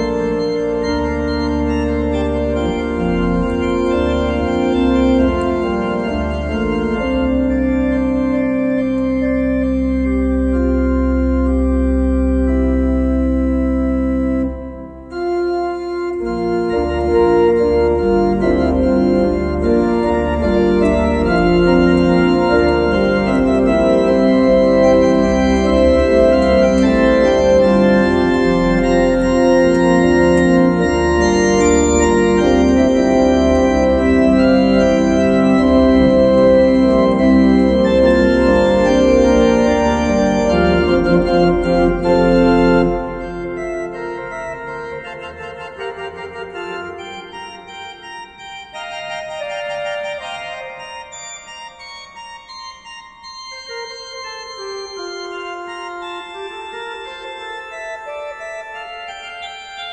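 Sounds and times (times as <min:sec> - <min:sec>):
organ chords: 0:00.0 - 0:59.9.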